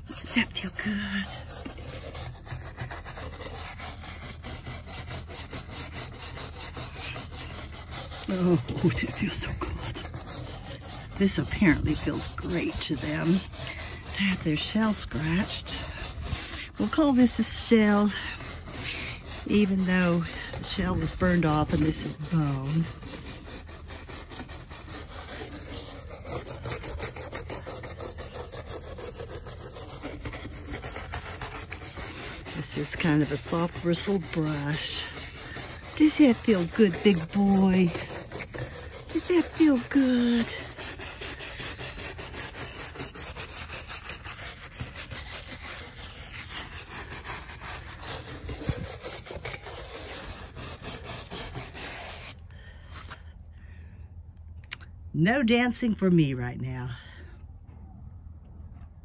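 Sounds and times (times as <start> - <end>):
brush scrubbing shell: 0.0 - 53.2.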